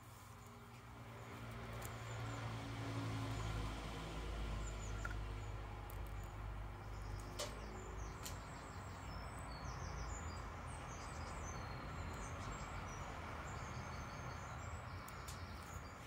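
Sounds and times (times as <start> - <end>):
outdoor background hiss: 0.0 - 16.0
small birds chirping and trilling: 0.3 - 16.0.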